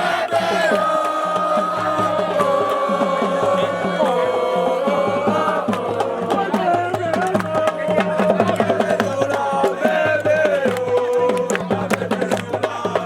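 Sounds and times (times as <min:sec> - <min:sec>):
group singing or chanting: 0:00.0 - 0:13.0
live drumming: 0:00.0 - 0:13.0.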